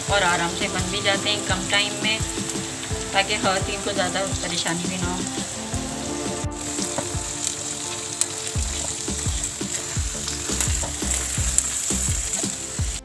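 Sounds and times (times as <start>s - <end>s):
okra sizzling in hot oil: 0.0s - 13.0s.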